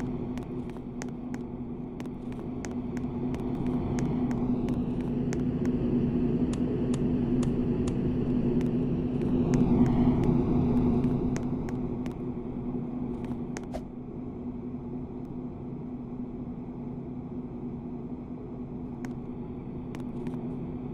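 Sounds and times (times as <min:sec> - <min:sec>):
ceiling fan motor hum: 0:00.0 - 0:20.9.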